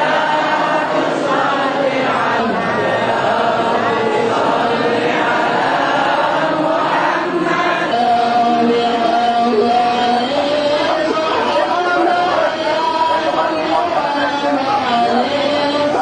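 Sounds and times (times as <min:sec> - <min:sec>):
men chanting together: 0:00.0 - 0:16.0
voice leading over microphone: 0:00.0 - 0:16.0.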